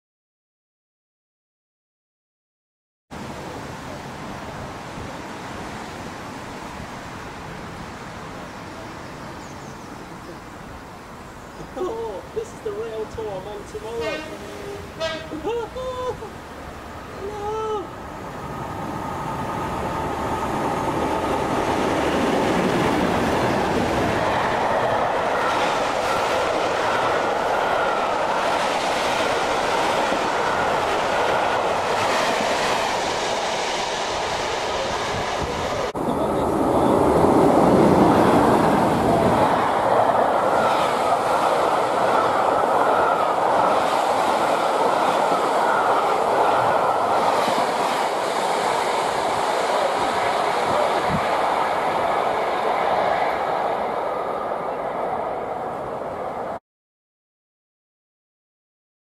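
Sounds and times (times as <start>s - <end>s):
diesel locomotives passing: 3.2s - 56.6s.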